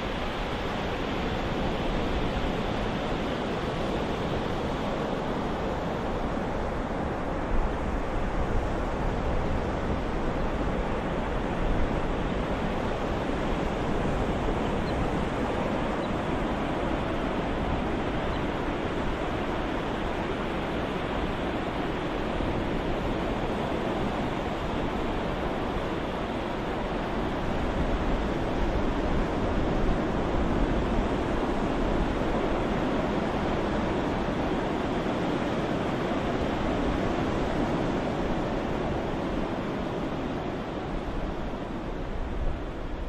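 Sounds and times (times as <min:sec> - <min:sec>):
ocean surf: 0:00.0 - 0:43.0.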